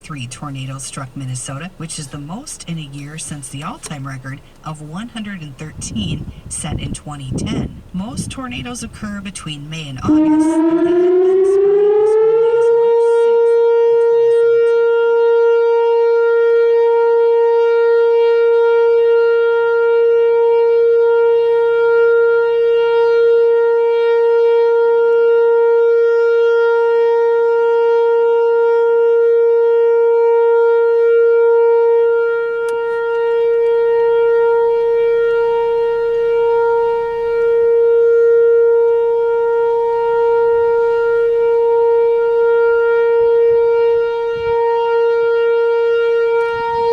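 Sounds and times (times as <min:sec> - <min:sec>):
warning siren steady tone: 0:00.0 - 0:46.9.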